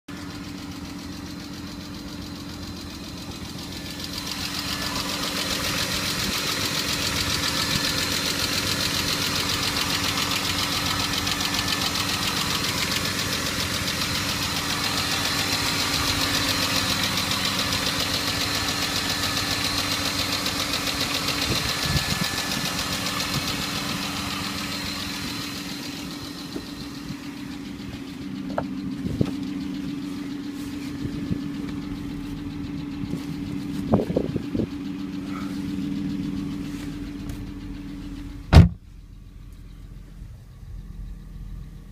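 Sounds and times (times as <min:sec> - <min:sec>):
car engine idling: 0:00.1 - 0:41.9.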